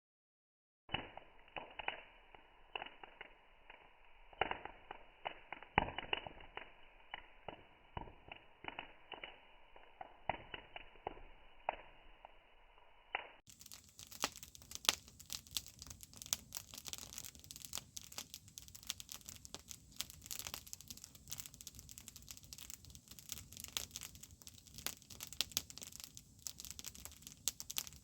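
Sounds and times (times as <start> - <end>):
campfire crackling and popping: 0.9 - 28.0.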